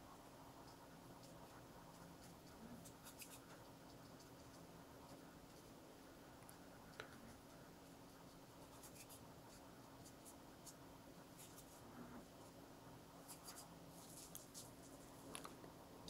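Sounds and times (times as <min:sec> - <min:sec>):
low steady hum: 0:00.0 - 0:16.0
brush dabbing on paper: 0:00.6 - 0:12.6, 0:13.2 - 0:15.3.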